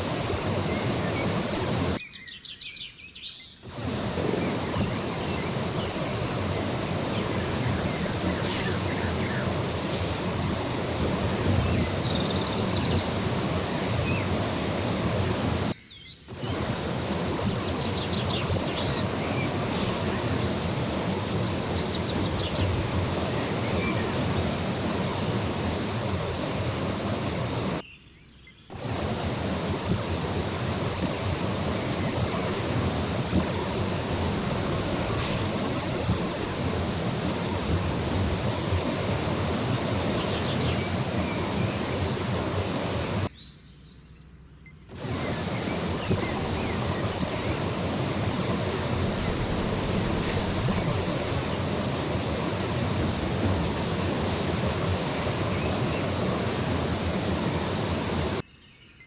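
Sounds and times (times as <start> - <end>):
steady rushing outdoor noise: 0.0 - 2.0, 3.6 - 27.8, 28.7 - 43.3, 44.9 - 58.4
faint bird chirps: 0.0 - 56.8.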